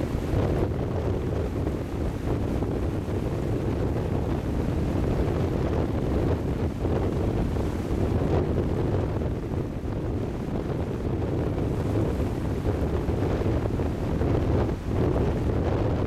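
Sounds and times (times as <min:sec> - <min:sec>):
small waves washing on shore: 0:00.0 - 0:16.0
wind buffeting microphone: 0:00.0 - 0:16.0.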